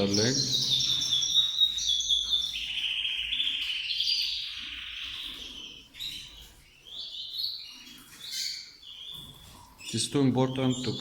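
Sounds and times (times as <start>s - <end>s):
canaries singing: 0.0s - 11.0s.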